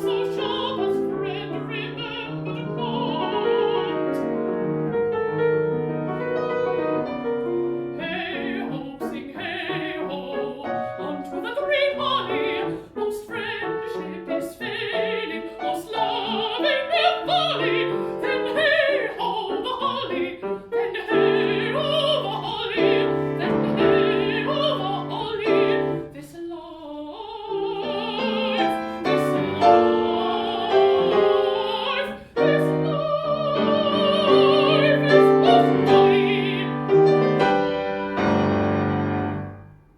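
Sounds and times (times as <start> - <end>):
woman singing with vibrato: 0.0 - 4.4, 7.9 - 37.0
piano accompaniment: 0.0 - 26.5, 27.2 - 39.9.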